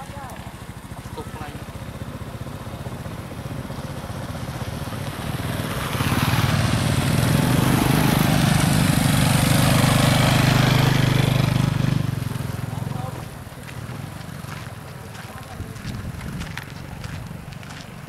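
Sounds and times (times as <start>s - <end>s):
dirt road noise: 0.0s - 18.0s
small motorcycle engine: 0.0s - 18.0s.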